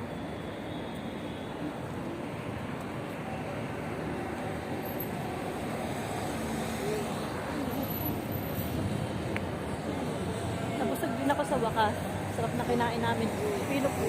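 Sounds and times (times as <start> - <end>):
vehicle road noise rumble: 0.0 - 14.0.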